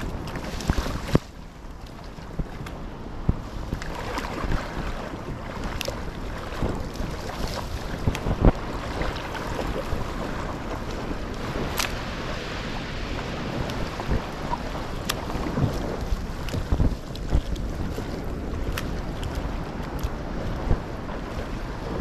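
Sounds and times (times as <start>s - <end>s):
water sloshing around boat: 0.0s - 22.0s
wind buffeting microphone: 0.0s - 22.0s.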